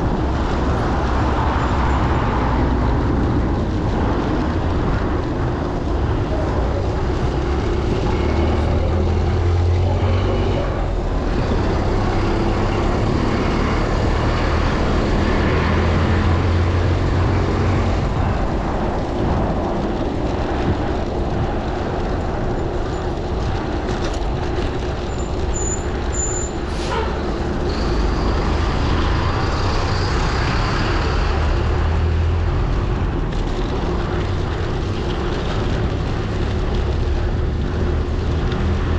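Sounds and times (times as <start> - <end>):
traffic passing: 0.0 - 38.9
wind noise on microphone: 0.0 - 38.9.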